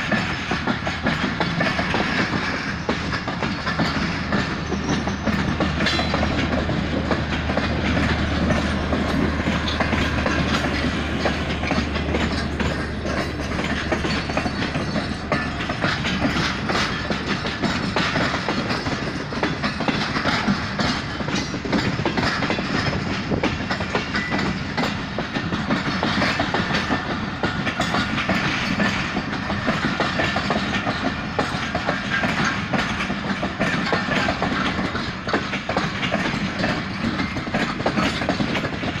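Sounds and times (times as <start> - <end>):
clickety-clack over rail joints: 0.0 - 39.0
train wheels rumbling on rails: 0.0 - 39.0.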